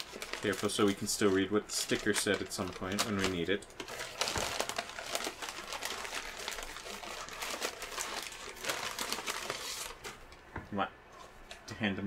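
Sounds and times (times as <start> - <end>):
paper bags crinkling and tearing: 0.0 - 10.3.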